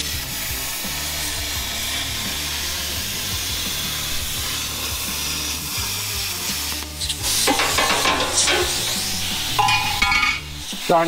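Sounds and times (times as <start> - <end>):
plasma cutter hissing: 0.0 - 11.0.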